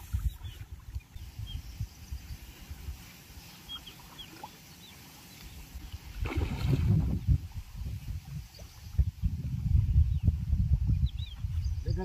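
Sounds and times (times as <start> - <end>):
wind on microphone: 0.0 - 4.0, 5.5 - 12.0.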